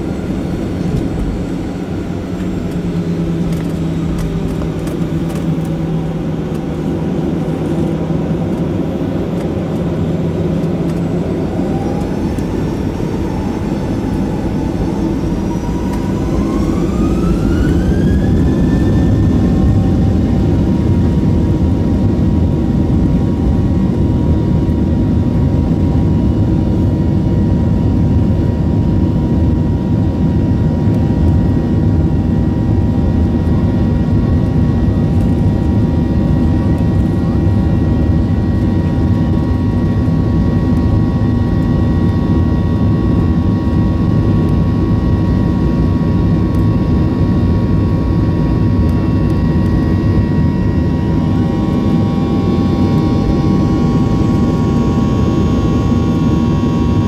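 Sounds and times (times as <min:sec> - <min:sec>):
jet engine rumble and fan whine: 0:00.0 - 0:57.0.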